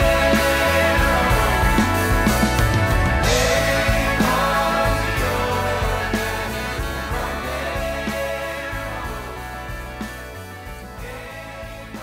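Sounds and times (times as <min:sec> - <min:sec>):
indie folk song: 0:00.0 - 0:12.0.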